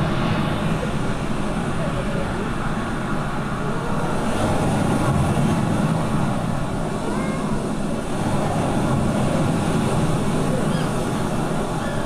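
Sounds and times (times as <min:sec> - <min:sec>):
surf rushing on a beach: 0:00.0 - 0:12.0.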